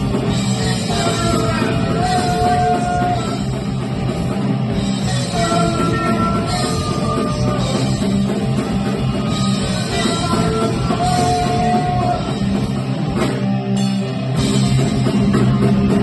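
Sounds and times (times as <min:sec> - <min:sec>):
punk rock band playing live: 0:00.0 - 0:16.0.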